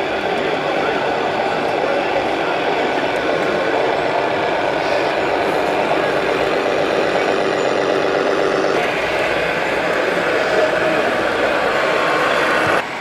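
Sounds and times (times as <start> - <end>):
toy truck engine sound: 0.0 - 13.0.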